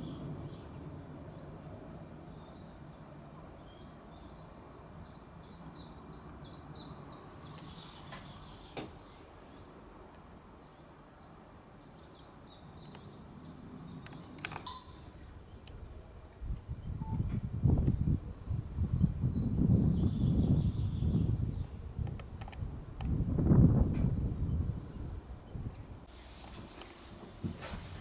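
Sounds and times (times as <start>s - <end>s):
songbird singing: 0.0s - 9.8s, 10.5s - 18.2s, 18.8s - 26.0s.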